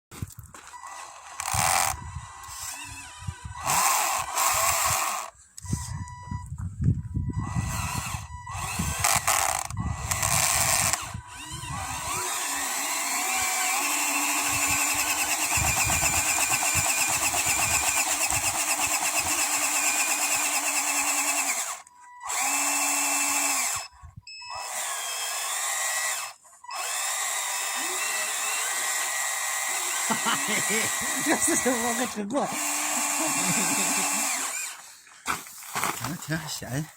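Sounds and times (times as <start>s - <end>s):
small electric motors whining: 0.6s - 36.2s.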